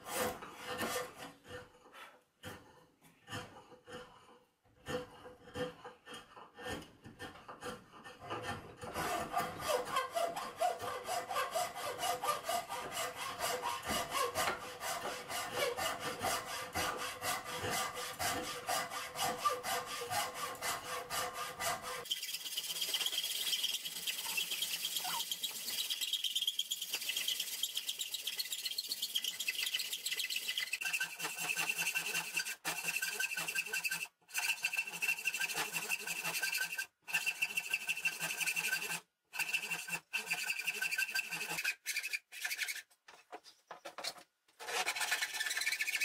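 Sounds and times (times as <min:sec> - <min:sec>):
hacksaw rasping through wood: 0:00.0 - 0:42.9, 0:44.6 - 0:46.0.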